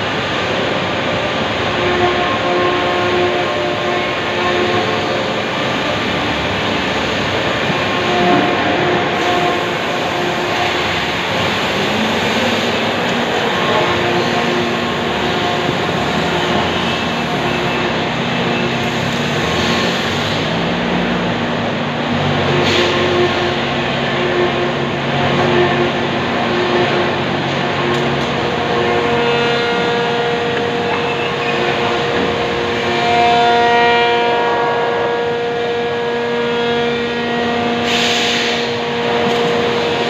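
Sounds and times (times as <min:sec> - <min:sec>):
factory machinery din: 0:00.0 - 0:40.0.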